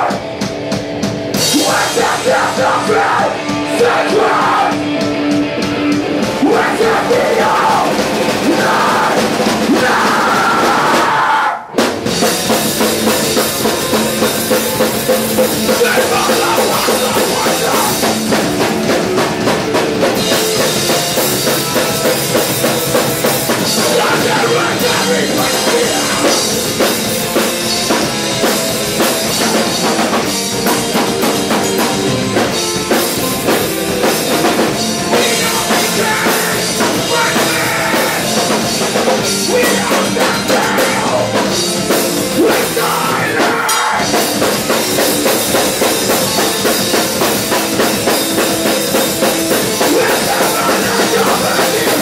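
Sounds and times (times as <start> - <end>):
drum kit: 0.0 - 52.0
electric guitars: 0.0 - 52.0.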